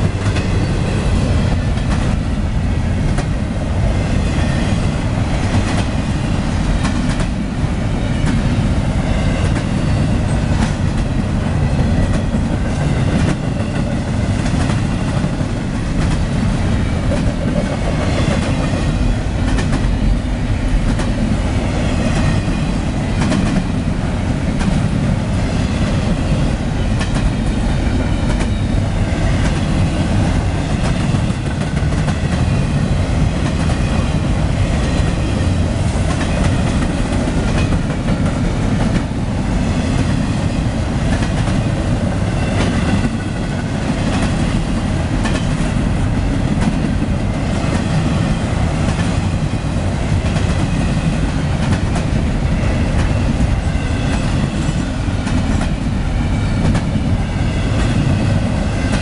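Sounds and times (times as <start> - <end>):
freight train cars rumbling: 0.0 - 59.0.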